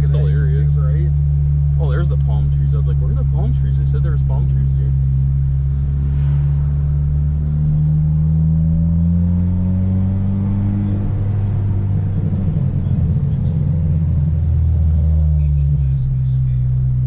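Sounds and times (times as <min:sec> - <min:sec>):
car engine drone: 0:00.0 - 0:17.0
road rumble: 0:00.0 - 0:17.0.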